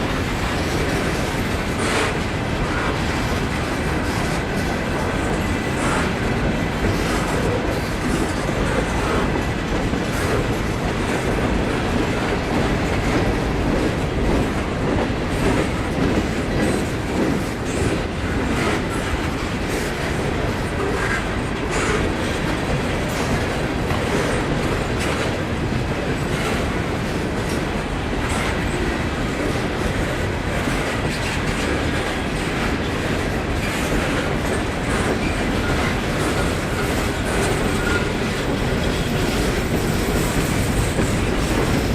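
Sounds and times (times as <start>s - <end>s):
train wheels clicking over rail joints: 0.0s - 41.9s.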